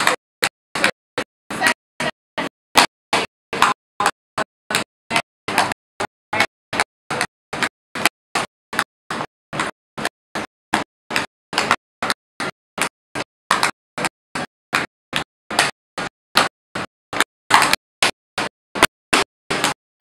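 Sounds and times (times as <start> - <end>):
tap shoes tapping on board: 0.0 - 19.8.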